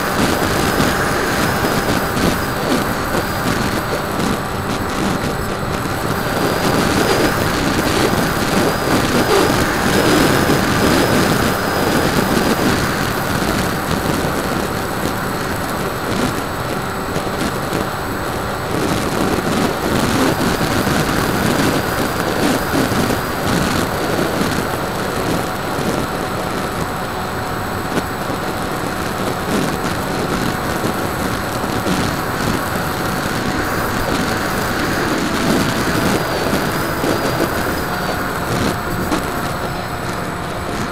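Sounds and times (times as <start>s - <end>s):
electric motor and propeller whine: 0.0s - 40.9s
wind rushing over microphone: 0.0s - 40.9s.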